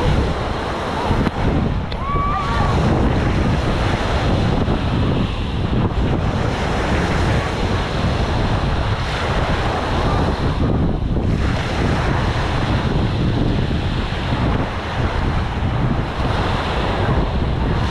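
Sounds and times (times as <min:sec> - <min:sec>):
small waves washing on sand: 0:00.0 - 0:17.9
wind buffeting microphone: 0:00.0 - 0:17.9.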